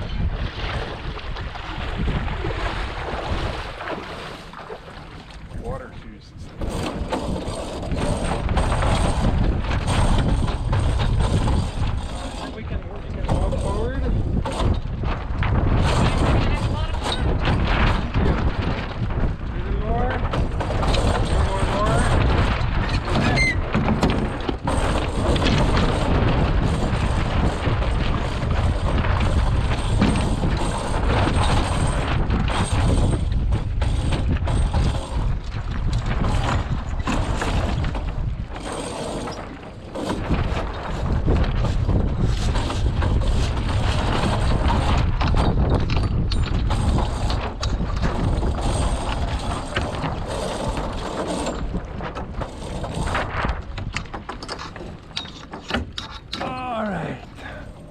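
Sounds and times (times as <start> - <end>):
strong wind buffeting microphone: 0.0 - 57.9
knocks and rattles: 6.4 - 57.9.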